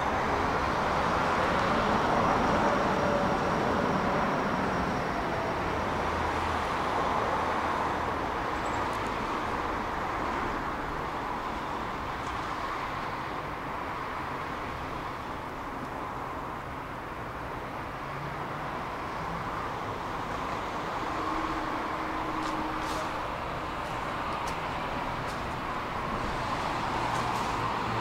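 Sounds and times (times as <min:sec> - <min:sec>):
moving vehicle running noise: 0:00.0 - 0:28.0.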